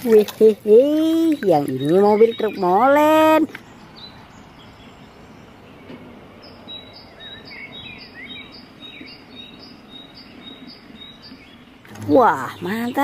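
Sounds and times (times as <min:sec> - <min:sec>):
birds chirping and singing: 0:01.2 - 0:13.0.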